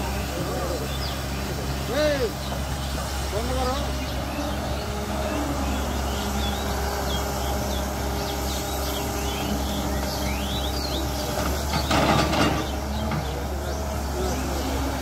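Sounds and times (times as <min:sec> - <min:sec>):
excavator diesel engines running: 0:00.0 - 0:15.0.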